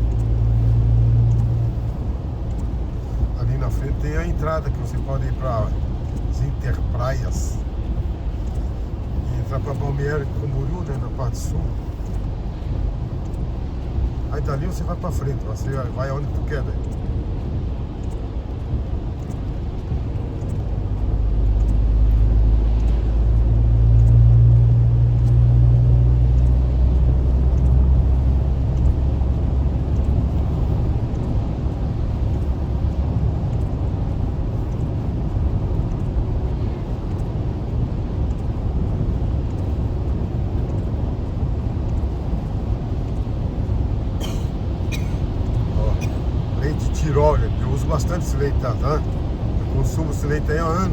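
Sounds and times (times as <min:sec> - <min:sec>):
deep engine drone: 0:00.0 - 0:50.9
road noise inside car: 0:00.0 - 0:50.9.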